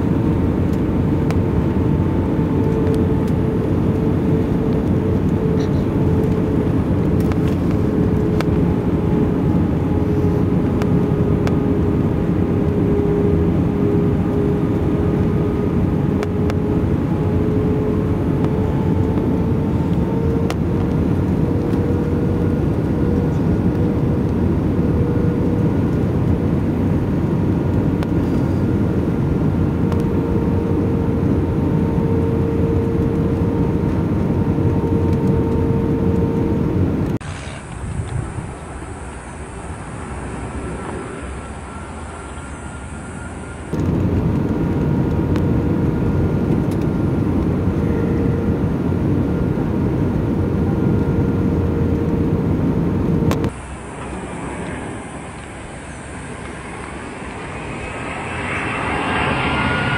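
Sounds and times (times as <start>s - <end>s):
airplane cabin engine rush: 0.0s - 59.9s
rising hum: 0.0s - 59.9s.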